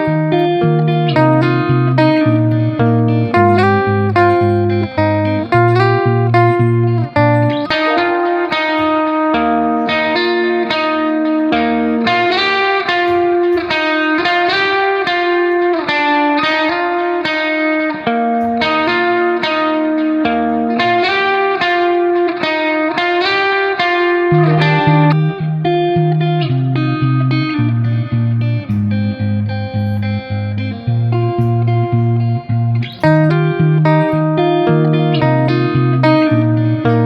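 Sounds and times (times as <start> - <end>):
plucked guitar melody: 0.0 - 37.0.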